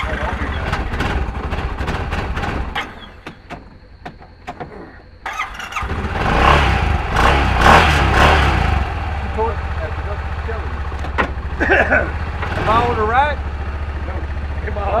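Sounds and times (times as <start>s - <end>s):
utility vehicle engine throbbing: 0.0s - 2.8s, 5.7s - 15.0s.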